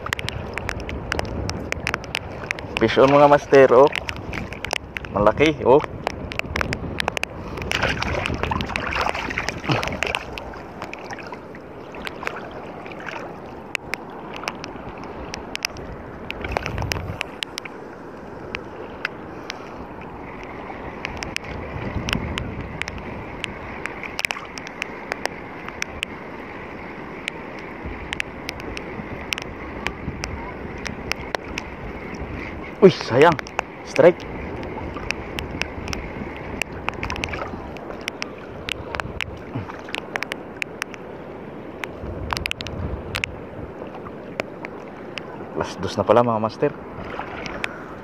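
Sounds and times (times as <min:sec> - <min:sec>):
sea water sloshing: 0:00.0 - 0:48.0.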